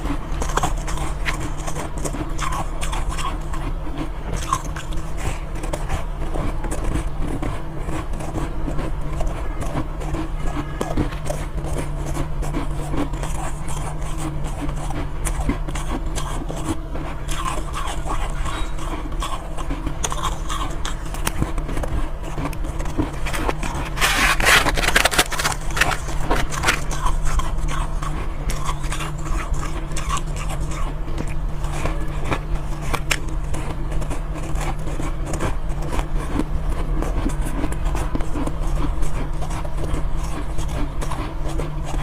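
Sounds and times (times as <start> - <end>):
ice being crunched and chewed: 0.0 - 42.0
steady low hum: 0.0 - 42.0.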